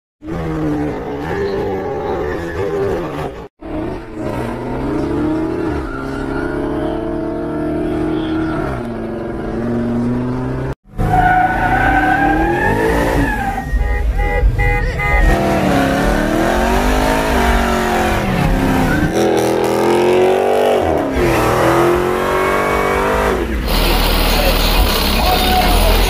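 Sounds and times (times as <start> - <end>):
car engine at high revs: 3.3 - 13.6, 14.9 - 26.0.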